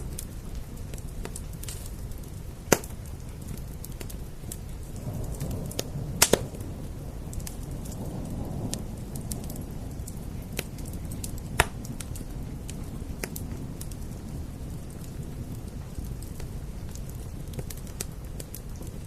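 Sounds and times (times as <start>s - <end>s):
rain on glass: 0.0s - 19.0s
wood fire crackling and popping: 0.0s - 19.0s.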